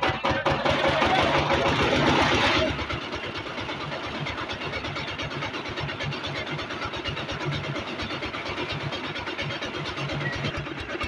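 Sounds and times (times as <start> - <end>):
small diesel engine running: 0.0 - 11.0.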